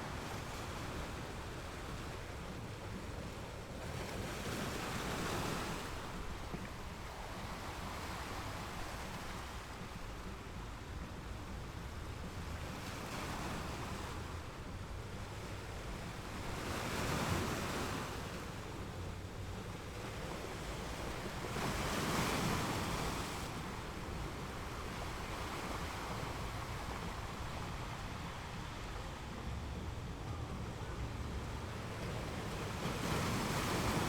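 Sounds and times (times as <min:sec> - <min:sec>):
sea waves washing: 0:00.0 - 0:34.0
wind: 0:00.0 - 0:34.0.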